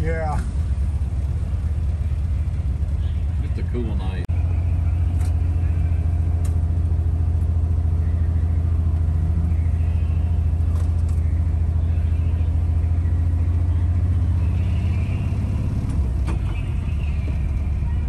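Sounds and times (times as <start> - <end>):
car engine droning inside cabin: 0.0 - 18.0.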